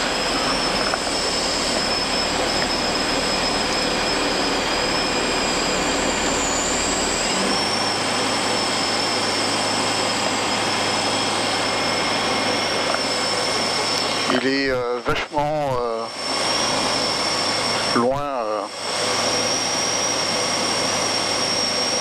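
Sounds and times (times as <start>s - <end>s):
aircraft engine and propeller drone: 0.0s - 22.0s
thin high whine: 0.0s - 22.0s.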